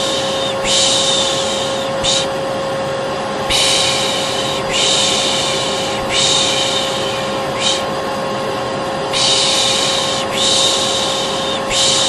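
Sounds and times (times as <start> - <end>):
person shushing: 0.0 - 2.4, 3.5 - 7.9, 9.1 - 12.0
vacuum cleaner motor humming: 0.0 - 12.0.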